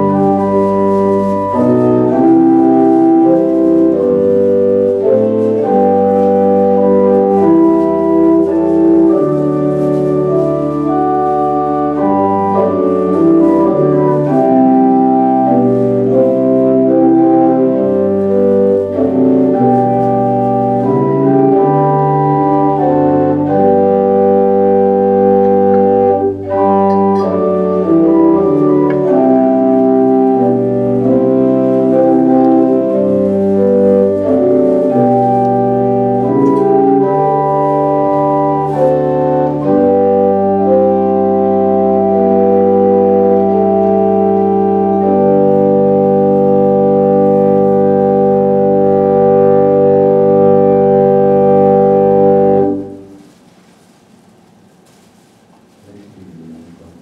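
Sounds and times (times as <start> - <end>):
organ playing slow chords: 0.0 - 53.4.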